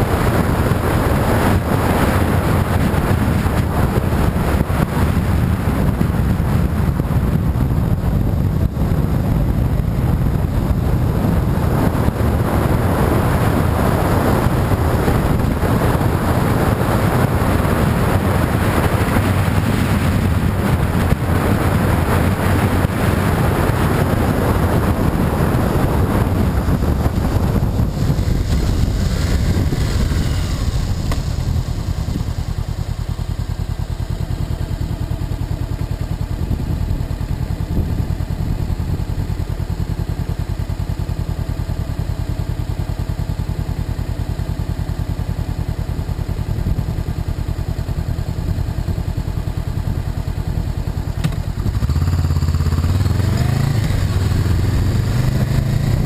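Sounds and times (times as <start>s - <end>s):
wind rush: 0.0s - 41.8s, 49.9s - 56.0s
motorcycle engine running: 0.0s - 56.0s.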